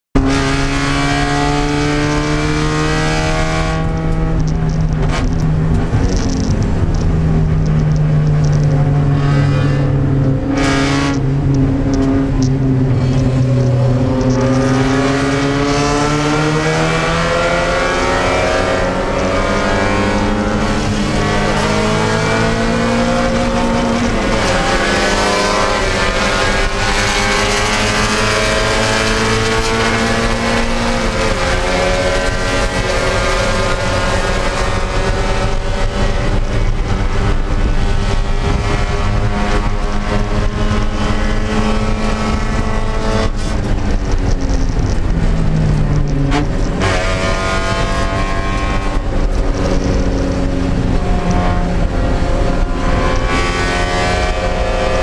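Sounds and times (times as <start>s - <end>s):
car engine running loud: 0.2s - 55.0s.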